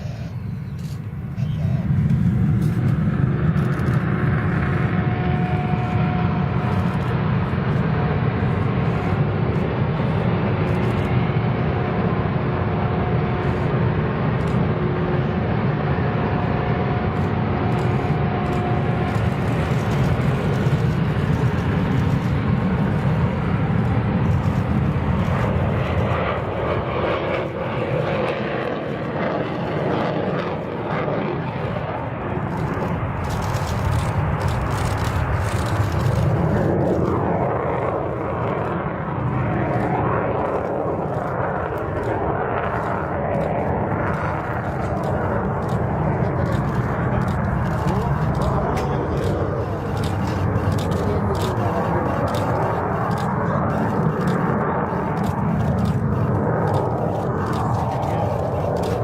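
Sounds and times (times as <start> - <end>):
faint engine whine: 0.0 - 59.0
jet engines rumbling: 0.0 - 59.0.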